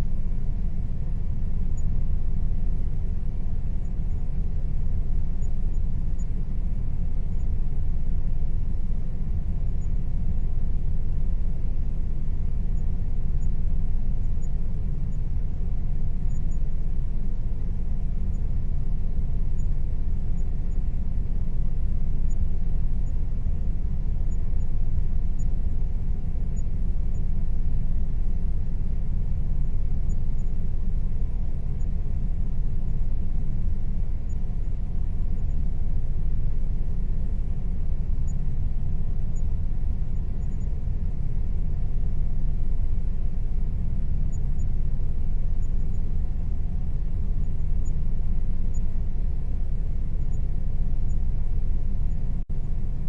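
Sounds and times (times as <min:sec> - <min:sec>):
air conditioner rumbling: 0:00.0 - 0:53.0
faint steady hum: 0:00.0 - 0:53.0.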